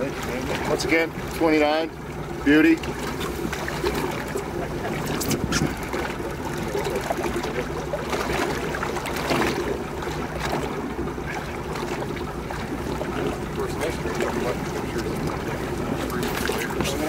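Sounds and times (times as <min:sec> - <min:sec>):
water lapping against boat: 0:00.0 - 0:17.0.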